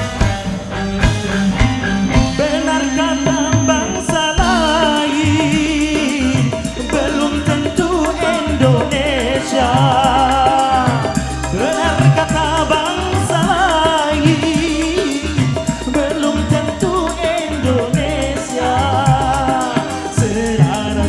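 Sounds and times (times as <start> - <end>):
drum beat: 0.0 - 18.5
electric guitars: 0.0 - 21.0
keyboards: 0.0 - 21.0
man singing: 1.5 - 21.0.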